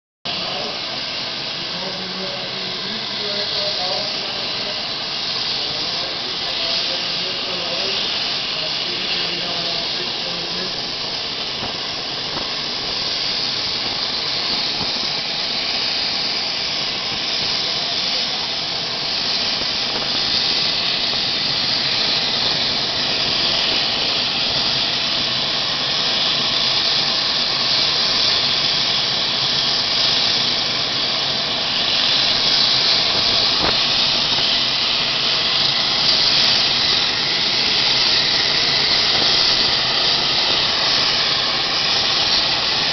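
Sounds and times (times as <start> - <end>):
turboprop engines running: 0.3 - 42.9.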